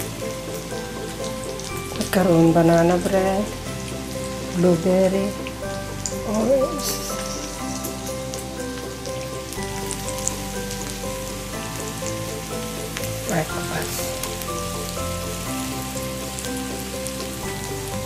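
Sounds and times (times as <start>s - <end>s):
background music: 0.0s - 18.0s
meat sizzling on a griddle: 0.0s - 18.0s.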